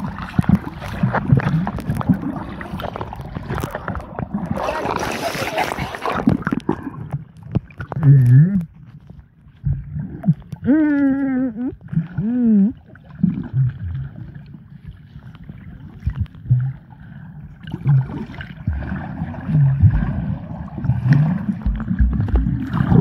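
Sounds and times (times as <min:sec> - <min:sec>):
muffled underwater sloshing: 0:00.0 - 0:23.0.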